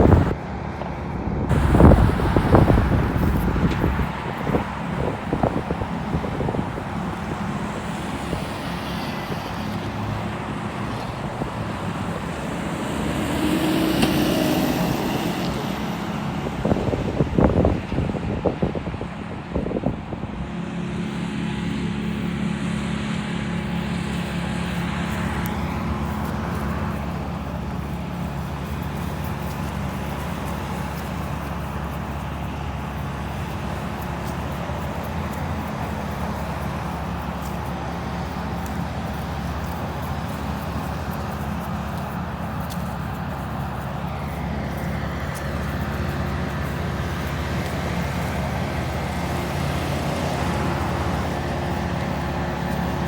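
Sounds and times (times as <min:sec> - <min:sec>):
low engine hum: 0:00.0 - 0:53.0
vehicles passing by: 0:00.0 - 0:53.0.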